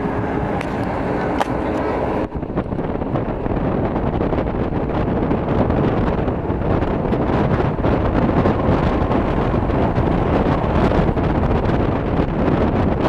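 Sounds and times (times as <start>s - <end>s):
train running noise: 0.0s - 13.0s
wind buffeting microphone: 0.0s - 13.0s.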